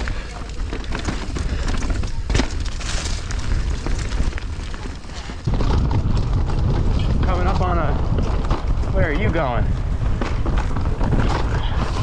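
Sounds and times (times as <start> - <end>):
bike rattling and knocking: 0.0 - 12.0
tyres crunching over rocks: 0.0 - 12.0
wind buffeting microphone: 0.0 - 12.0.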